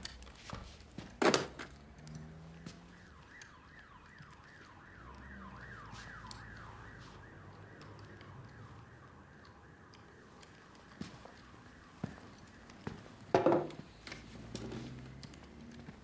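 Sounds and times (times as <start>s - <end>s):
electronic alarm siren wailing: 1.8s - 16.0s.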